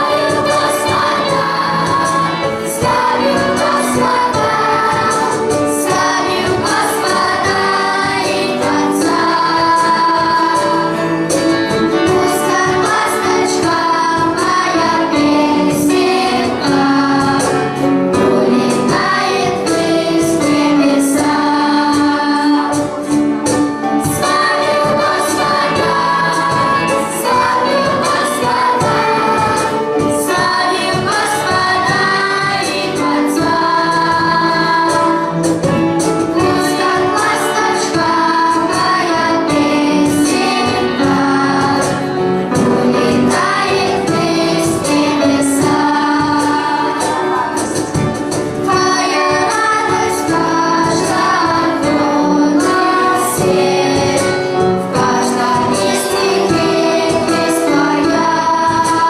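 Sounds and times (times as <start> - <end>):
children's choir singing: 0.0 - 59.0
instrumental accompaniment with beat: 0.0 - 59.0.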